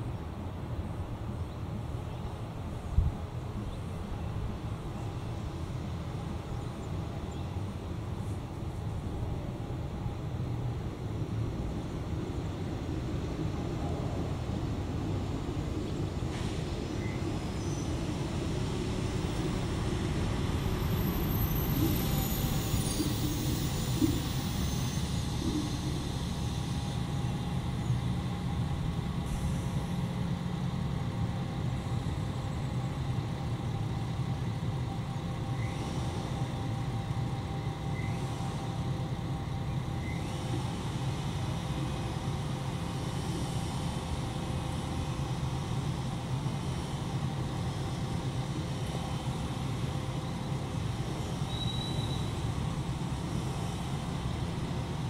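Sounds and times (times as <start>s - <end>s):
diesel railcar idling: 0.0s - 55.0s.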